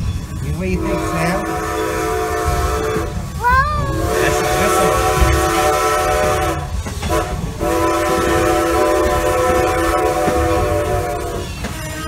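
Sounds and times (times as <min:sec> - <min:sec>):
low rumble of train: 0:00.0 - 0:12.0
steam whistle blowing: 0:00.8 - 0:03.2, 0:04.0 - 0:12.0.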